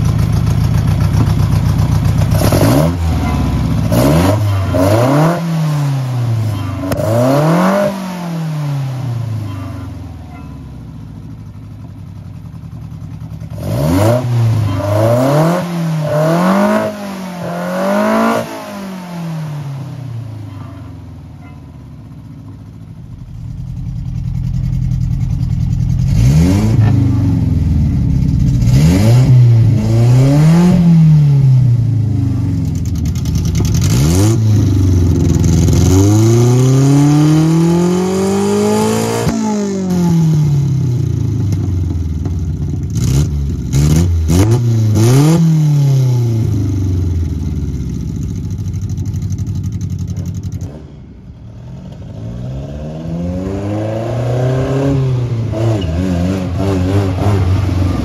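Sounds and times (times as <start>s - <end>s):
engine idling and revving: 0.0s - 58.0s.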